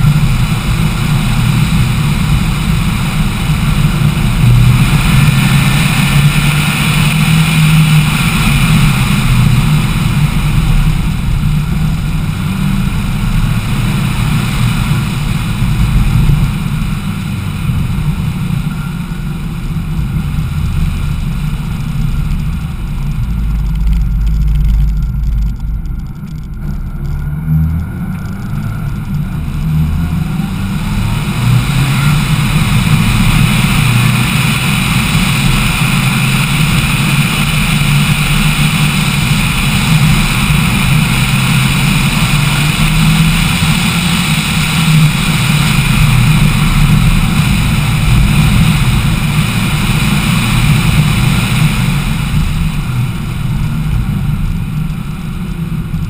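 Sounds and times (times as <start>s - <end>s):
road noise: 0.0s - 56.0s
turbocharged car engine running: 0.0s - 56.0s.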